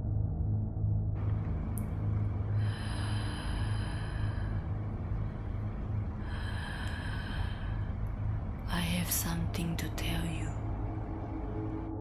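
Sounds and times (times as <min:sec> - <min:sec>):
low pulsing drone: 0:00.0 - 0:12.0.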